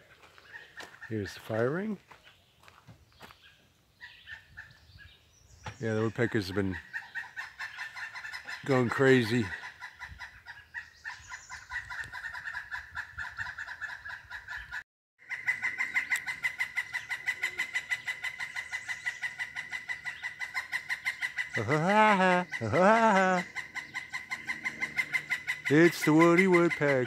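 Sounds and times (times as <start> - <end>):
woodpecker wavering calls: 0.0 - 1.6, 3.3 - 27.0
woodpeckers chattering: 0.0 - 27.0.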